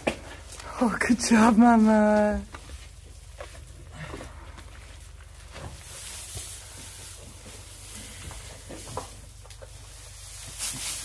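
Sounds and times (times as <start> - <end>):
steady low hum: 0.0 - 11.0
straw rustling and crackling: 0.0 - 11.0.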